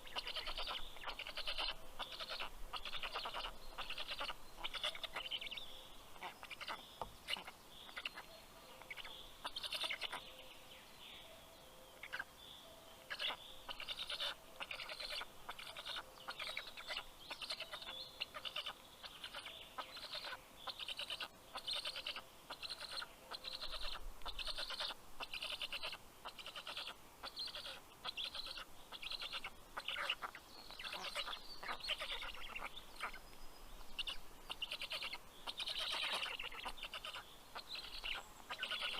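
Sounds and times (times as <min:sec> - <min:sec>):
stork chicks raspy calls: 0:00.0 - 0:10.2, 0:13.0 - 0:38.9.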